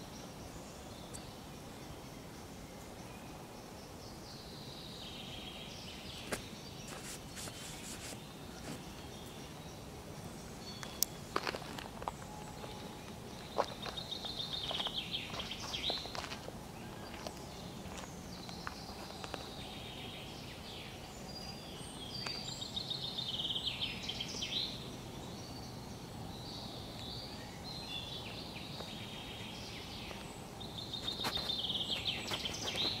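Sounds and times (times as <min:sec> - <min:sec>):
small birds singing and chirping: 0:00.0 - 0:33.0
steady background hiss: 0:00.0 - 0:33.0.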